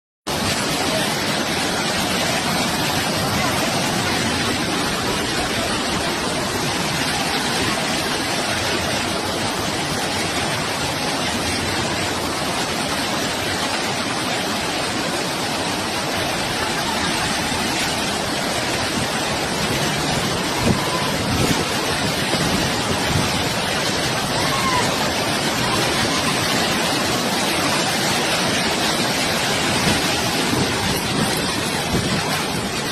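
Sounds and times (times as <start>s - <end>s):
rushing floodwater: 0.3s - 32.9s.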